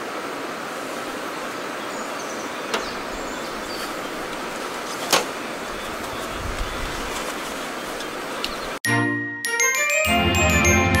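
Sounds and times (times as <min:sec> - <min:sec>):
outdoor background rush: 0:00.0 - 0:08.8.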